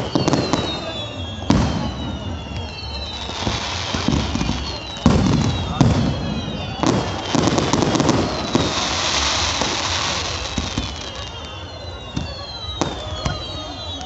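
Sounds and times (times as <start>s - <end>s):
falling firework whistles: 0.0s - 14.0s
firework bangs: 0.0s - 14.0s
firework crackling: 0.0s - 14.0s.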